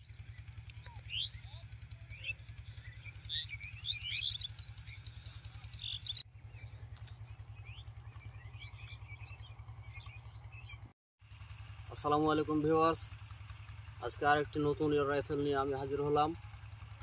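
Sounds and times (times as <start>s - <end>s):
low mechanical throb: 0.0s - 17.0s
small birds chirping: 0.0s - 17.0s.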